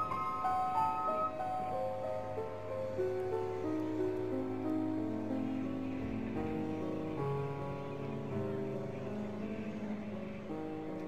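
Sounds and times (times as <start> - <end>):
music of slow held chords: 0.0 - 11.0.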